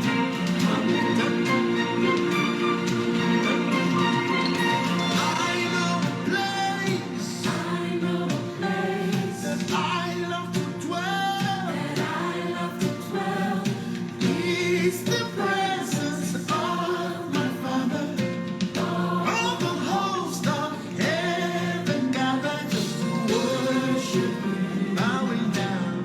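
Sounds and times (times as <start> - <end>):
gospel choir with instruments: 0.0 - 26.0.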